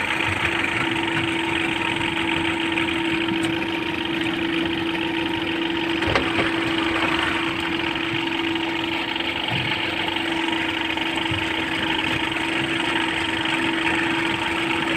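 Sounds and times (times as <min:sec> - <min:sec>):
crane engine humming: 0:00.0 - 0:14.9.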